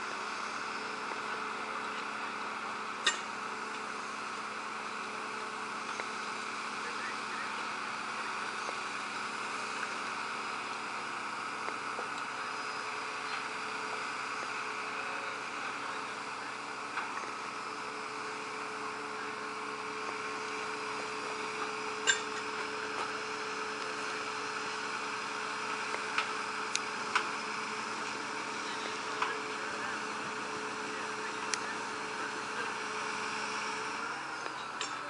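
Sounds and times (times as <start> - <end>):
heavy machinery drone: 0.0 - 35.0.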